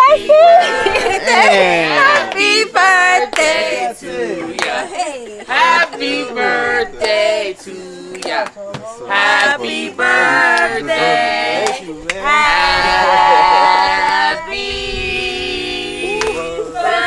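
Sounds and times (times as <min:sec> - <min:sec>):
group shouting and cheering: 0:00.0 - 0:07.2, 0:09.1 - 0:17.0.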